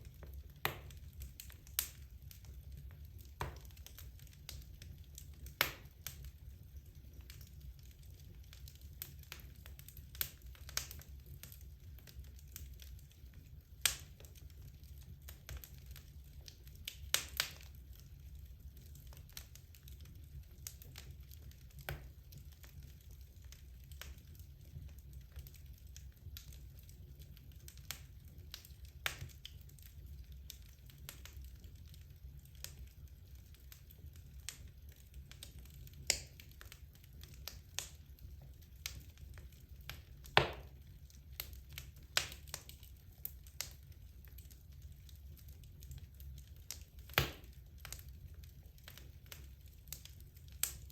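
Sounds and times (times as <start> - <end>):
low rumble of flames: 0.0 - 50.9
wood fire crackling: 0.0 - 50.9.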